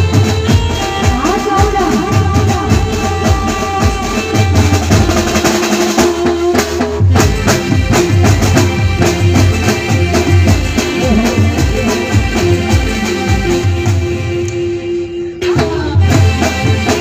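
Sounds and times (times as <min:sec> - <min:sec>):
dhol and drum kit rhythm: 0:00.0 - 0:17.0.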